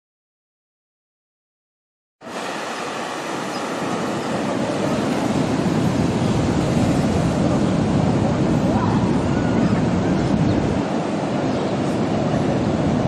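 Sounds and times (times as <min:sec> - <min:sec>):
surf breaking on beach: 0:02.2 - 0:13.0.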